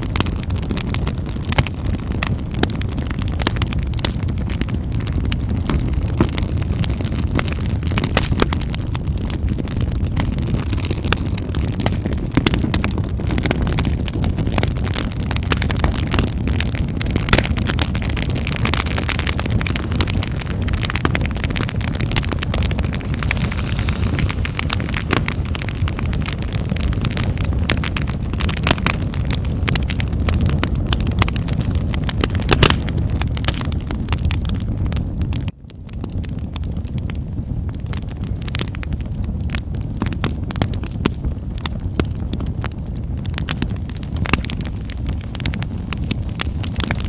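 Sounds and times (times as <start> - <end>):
fire crackling and popping: 0.0 - 47.0
wood fire rumbling: 0.0 - 47.0.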